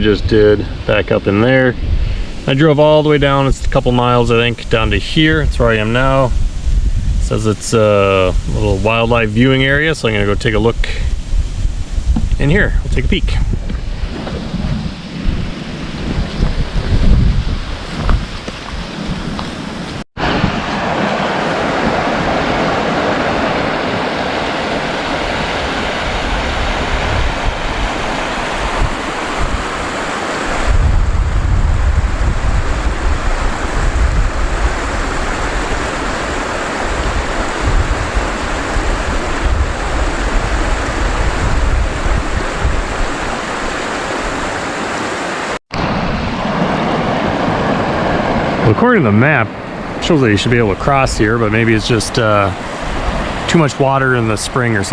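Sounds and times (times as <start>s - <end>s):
low rumbling wind gusts: 0.0s - 54.9s
strong wind buffeting microphone: 0.0s - 54.9s.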